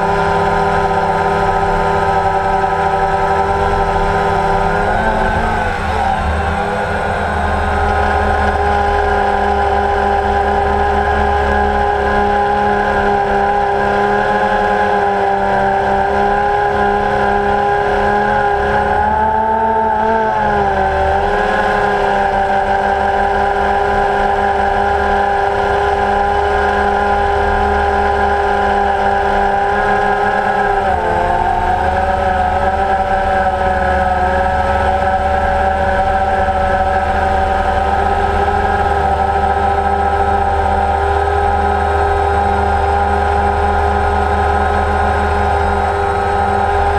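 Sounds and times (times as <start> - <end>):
drone motors humming: 0.0 - 15.4, 16.0 - 46.9.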